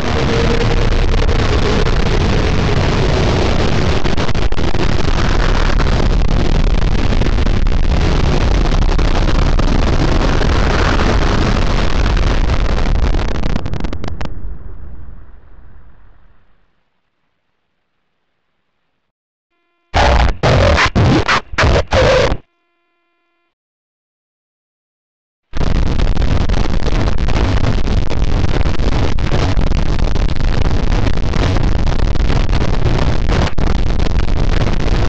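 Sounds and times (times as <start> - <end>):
distorted rumbling noise: 0.0 - 19.1, 19.9 - 22.5, 25.5 - 35.0.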